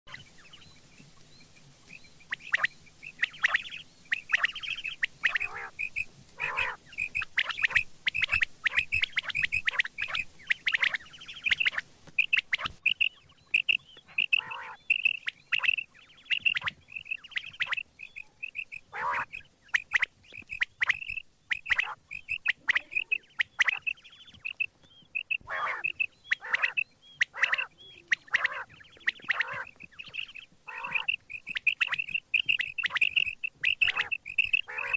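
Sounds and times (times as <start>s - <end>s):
quail calling: 0.1s - 0.7s, 1.9s - 34.9s.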